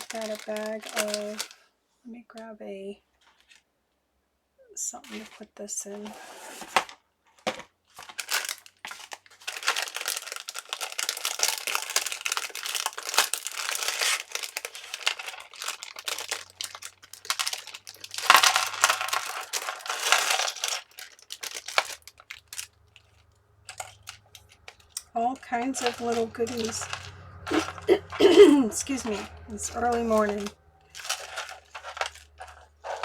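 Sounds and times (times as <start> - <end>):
crinkly bag rustling: 0.0 - 1.7, 5.0 - 33.0.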